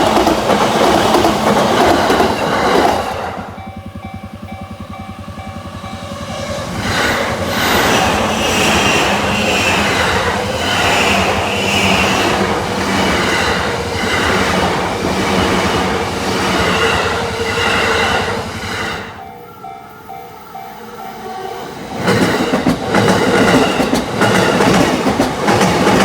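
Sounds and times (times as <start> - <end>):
train wheels clattering: 0.0 - 19.2, 21.8 - 26.0
train wheels rushing on rail: 0.0 - 26.0.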